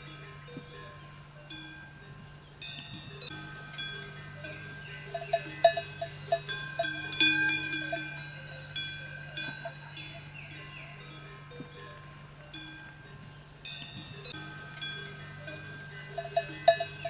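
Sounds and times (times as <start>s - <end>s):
metal bells clanking: 0.0s - 17.0s.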